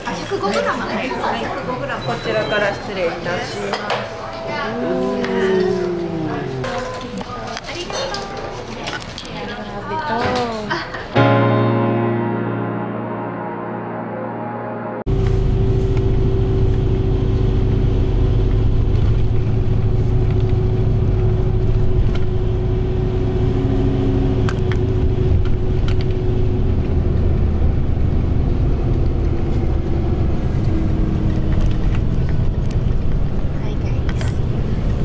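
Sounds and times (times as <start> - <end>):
bus engine and road rumble: 0.0 - 11.2, 15.1 - 35.0.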